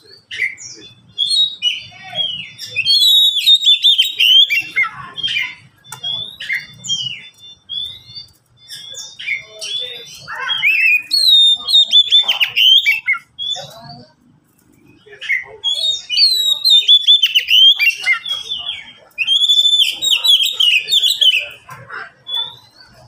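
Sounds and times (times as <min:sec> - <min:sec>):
birds singing whistled phrases: 0:00.0 - 0:23.0.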